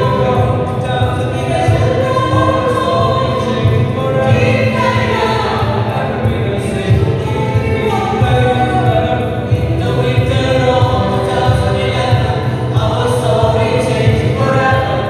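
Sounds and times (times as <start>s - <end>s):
amplified singing voices: 0.0s - 15.0s.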